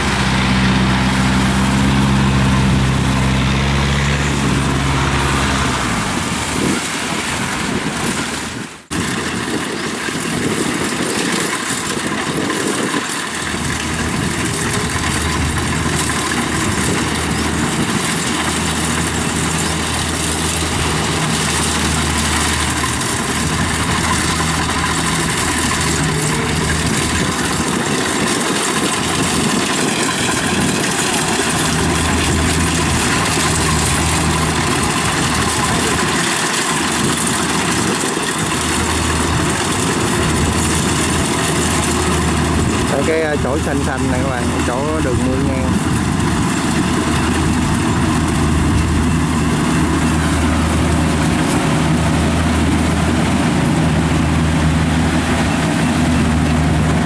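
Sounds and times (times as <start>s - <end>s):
combine harvester engine hum: 0.0s - 57.0s
rush of machine noise: 0.0s - 57.0s.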